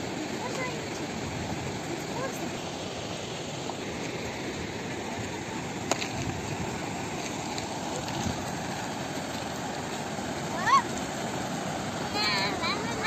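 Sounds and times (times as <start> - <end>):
turbulent river rushing: 0.0 - 13.0.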